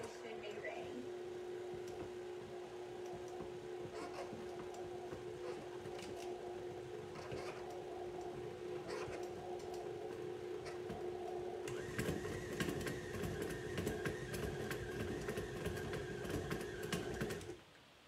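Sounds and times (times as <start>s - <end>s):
stand mixer motor humming: 1.0s - 17.6s.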